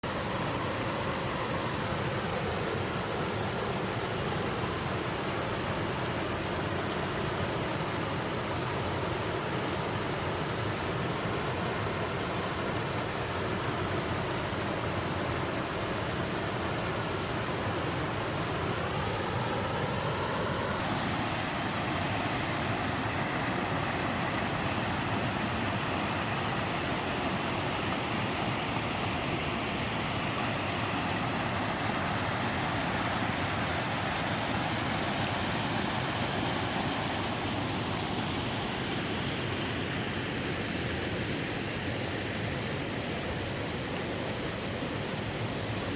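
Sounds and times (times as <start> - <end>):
waterfall rushing and splashing: 0.0 - 45.9.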